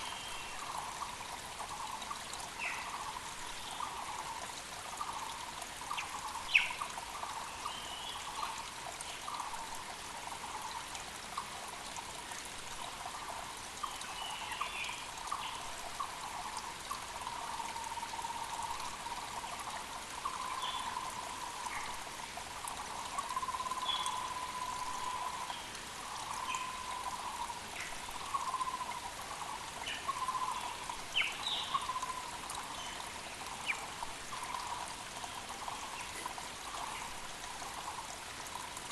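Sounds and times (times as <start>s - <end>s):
creek trickling and splashing: 0.0s - 38.9s.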